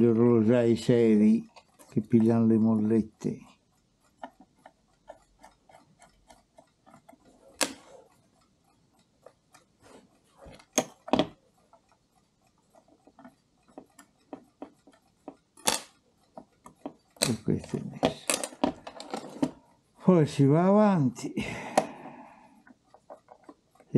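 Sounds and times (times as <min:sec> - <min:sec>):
mechanical clock ticking: 0:00.0 - 0:23.9
tools clicking on clock movement: 0:00.0 - 0:23.9.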